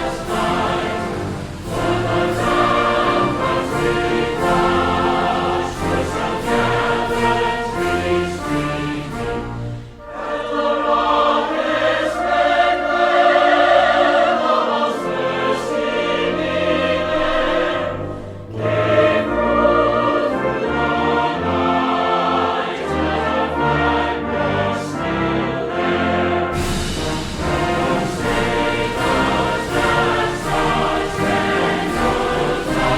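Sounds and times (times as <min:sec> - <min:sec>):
choir singing with orchestra: 0:00.0 - 0:32.9.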